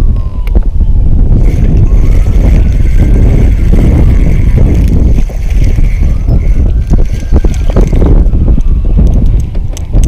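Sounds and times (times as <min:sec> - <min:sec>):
faint high whine: 0:00.0 - 0:09.4
wind buffeting microphone: 0:00.0 - 0:10.0.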